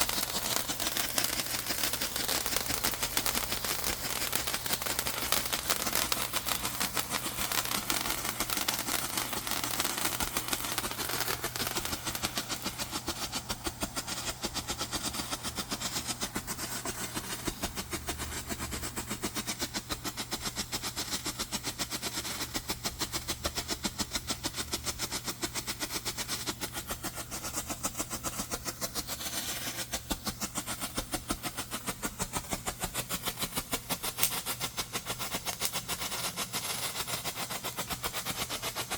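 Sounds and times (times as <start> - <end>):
fireworks crackling bangs: 0.0 - 21.0, 27.8 - 38.9.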